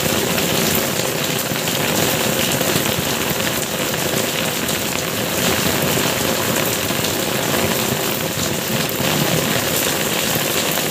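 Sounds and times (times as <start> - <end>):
rain splashing on hard ground: 0.0 - 10.9.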